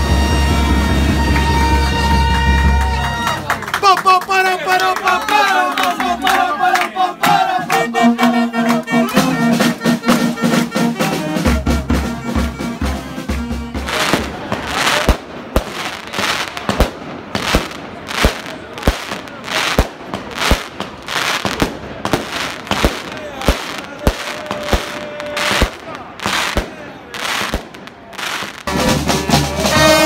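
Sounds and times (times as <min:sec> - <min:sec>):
firework bangs and crackling: 0:00.0 - 0:03.3, 0:09.1 - 0:30.0
brass band playing: 0:00.0 - 0:03.7, 0:05.5 - 0:30.0.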